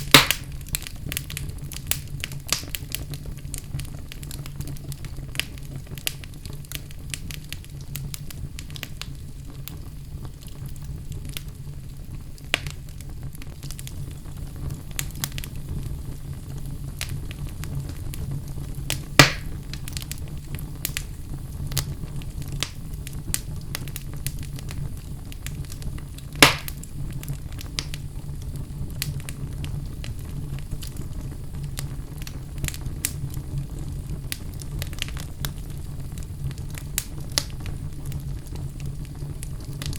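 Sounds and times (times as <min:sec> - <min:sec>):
fire crackling in fireplace: 0:00.0 - 0:39.9
fire pops: 0:00.0 - 0:39.9.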